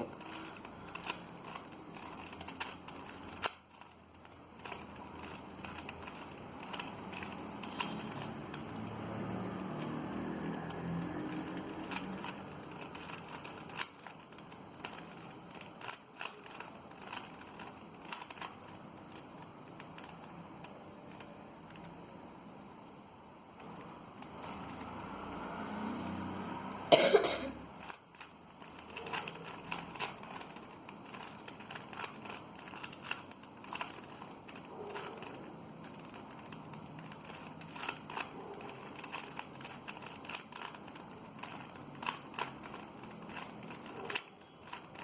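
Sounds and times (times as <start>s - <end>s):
plastic puzzle cube clicking: 0.0s - 21.9s, 27.7s - 45.0s.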